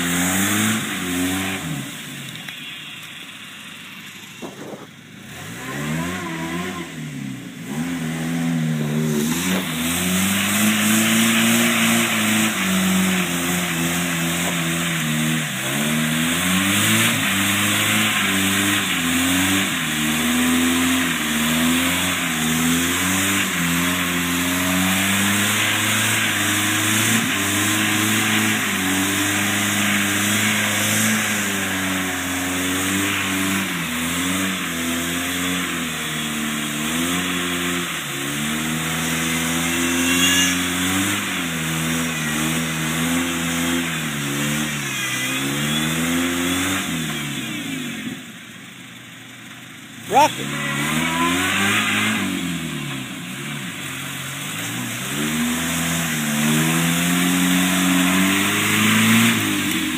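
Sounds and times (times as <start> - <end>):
engine revving under load: 0.0 - 48.5, 49.9 - 59.9
tires churning through mud: 0.0 - 59.9.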